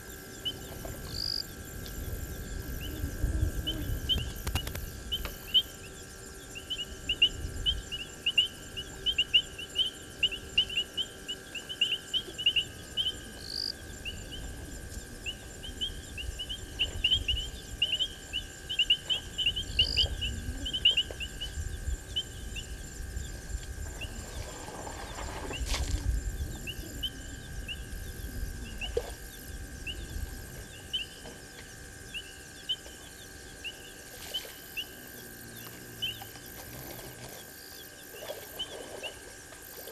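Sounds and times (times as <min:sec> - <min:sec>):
faint steady tone: 0:00.0 - 0:39.9.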